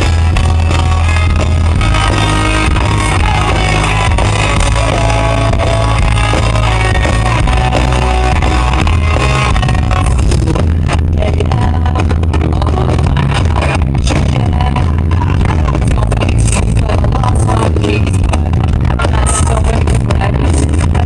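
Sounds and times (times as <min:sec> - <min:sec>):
drums: 0:00.0 - 0:21.0
electric guitars: 0:00.0 - 0:21.0
heavy booming bass: 0:00.0 - 0:21.0.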